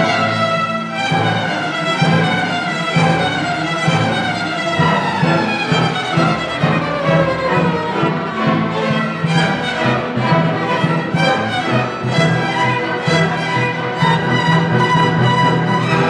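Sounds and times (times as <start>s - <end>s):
violins playing melody: 0.0s - 16.0s.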